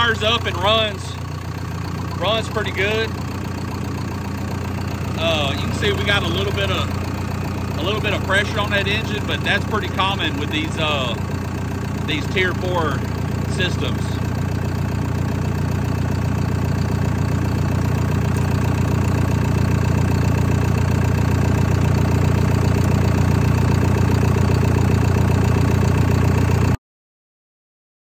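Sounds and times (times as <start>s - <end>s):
diesel engine idling: 0.0s - 26.8s.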